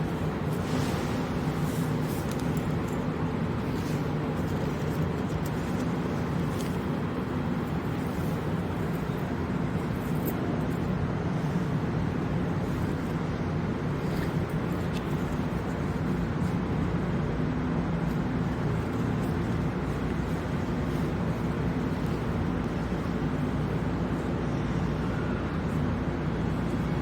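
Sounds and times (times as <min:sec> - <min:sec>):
underground trains rumbling: 0:00.0 - 0:27.0.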